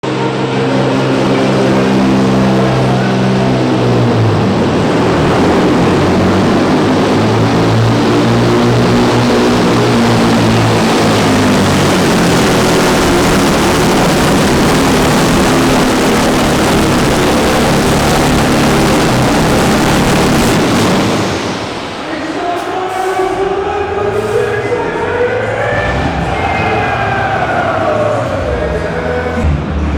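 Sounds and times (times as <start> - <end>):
diesel truck engine under load: 0.0 - 29.9.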